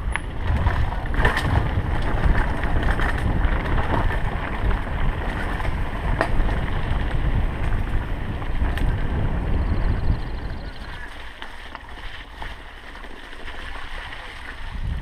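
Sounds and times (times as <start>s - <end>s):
wind buffeting microphone: 0.0s - 12.6s, 13.5s - 15.0s
bike rattling: 0.0s - 15.0s
bike tyres on dirt: 0.0s - 15.0s.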